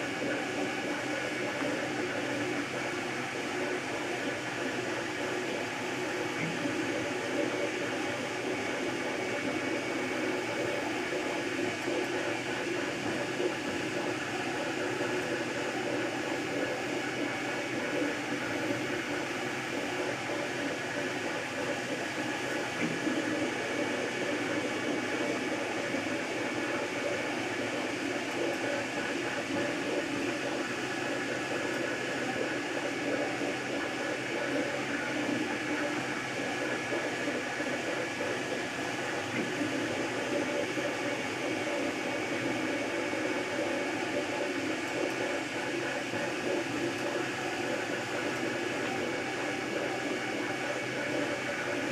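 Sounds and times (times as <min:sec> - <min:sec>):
printer fans and motors whirring: 0:00.0 - 0:51.9.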